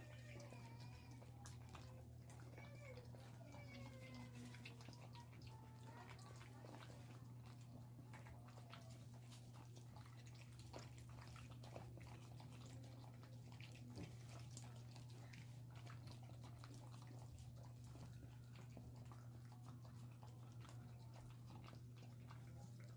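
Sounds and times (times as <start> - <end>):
dog chewing and licking food: 0.0 - 22.9.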